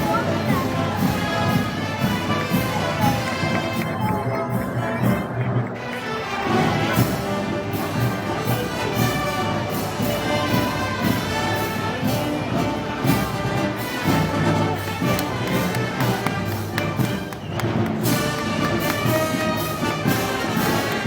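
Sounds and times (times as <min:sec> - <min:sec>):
brass band playing march: 0:00.0 - 0:21.0.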